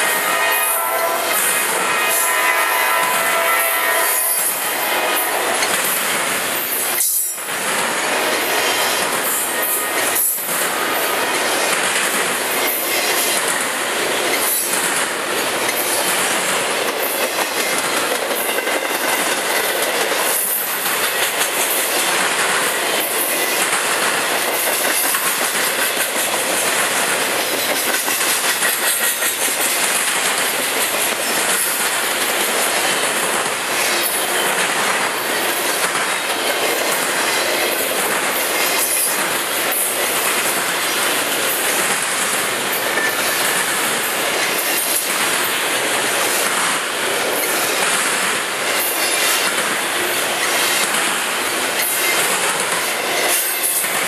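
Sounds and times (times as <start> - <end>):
steel train wheels rushing on rail: 0.0 - 54.0
wheels clicking over rail joints: 5.6 - 54.0.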